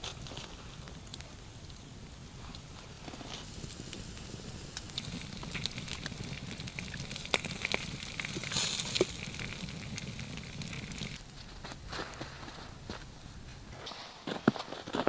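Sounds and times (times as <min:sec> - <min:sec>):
campfire crackling and popping: 0:00.0 - 0:13.1.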